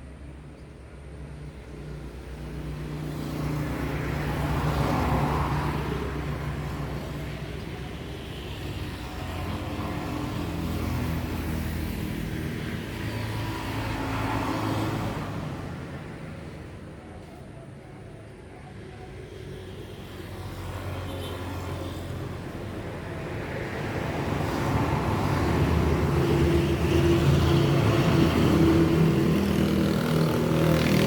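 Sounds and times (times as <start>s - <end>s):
road vehicles passing by: 0.0s - 31.0s.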